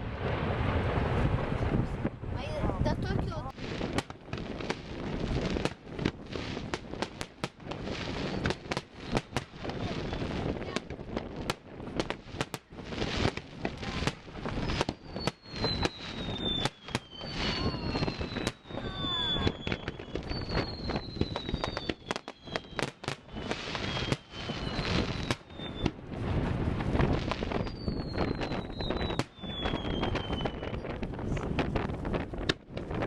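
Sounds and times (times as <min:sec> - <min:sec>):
fireworks bangs and crackles: 0:00.0 - 0:33.0
fireworks whistling: 0:03.5 - 0:33.0.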